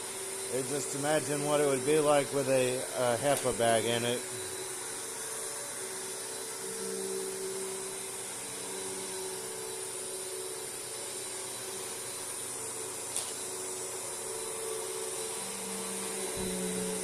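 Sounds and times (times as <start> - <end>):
upright vacuum running: 0.0 - 17.0.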